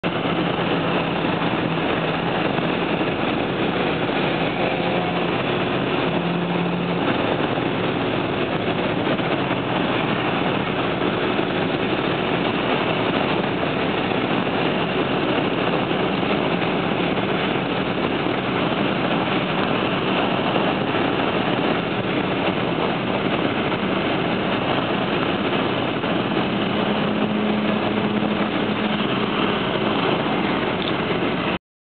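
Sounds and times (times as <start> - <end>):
faint engine drone: 0.0 - 31.6
road noise inside moving car: 0.0 - 31.6.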